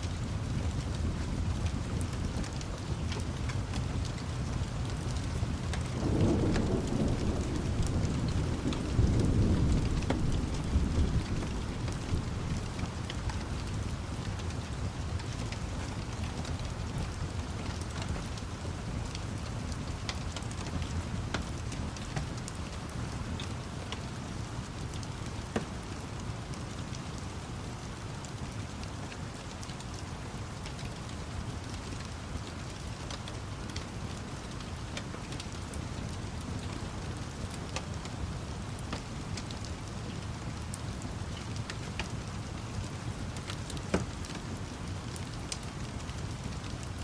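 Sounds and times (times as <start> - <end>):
rain hissing: 0.0 - 47.0
wood fire crackling: 0.0 - 47.0.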